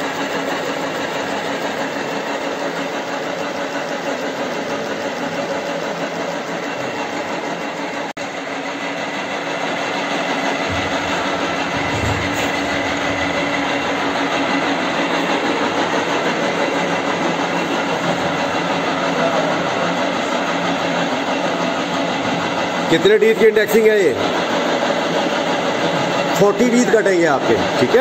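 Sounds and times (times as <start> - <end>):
milling machine running: 0.0 - 28.0.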